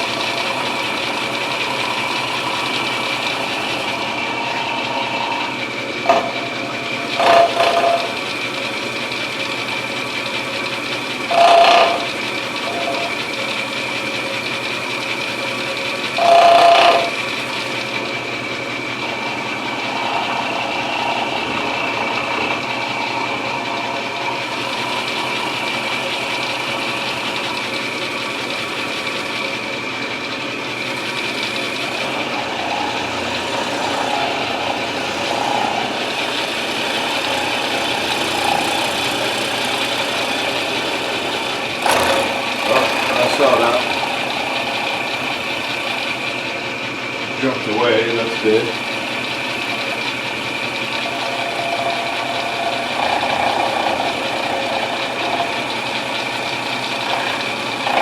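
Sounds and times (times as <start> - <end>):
milling machine whining: 0.0 - 58.0.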